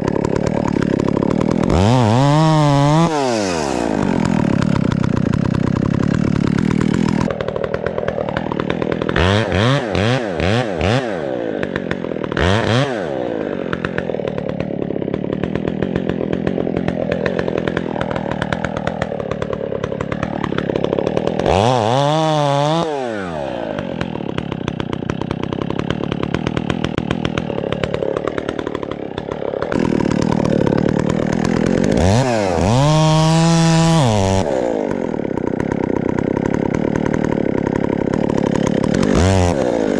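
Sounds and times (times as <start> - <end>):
chainsaw running: 0.0 - 39.9
chainsaw throttle blips: 0.0 - 39.9.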